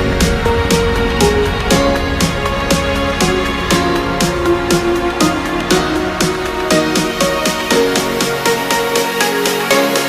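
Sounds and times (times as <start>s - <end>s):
electronic music with bass: 0.0s - 10.0s.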